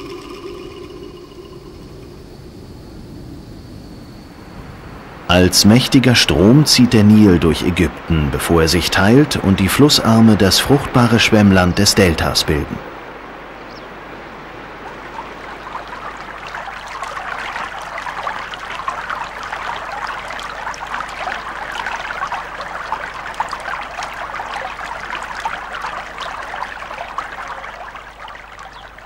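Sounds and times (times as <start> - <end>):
river water babbling over rocks: 4.4 - 29.0.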